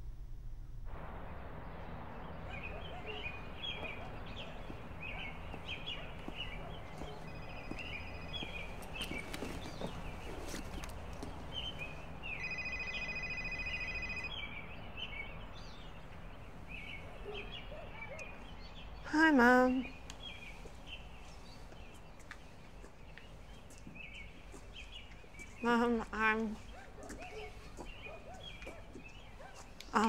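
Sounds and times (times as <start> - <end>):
outdoor background noise: 0.0 - 30.0
birds chirping: 1.1 - 30.0.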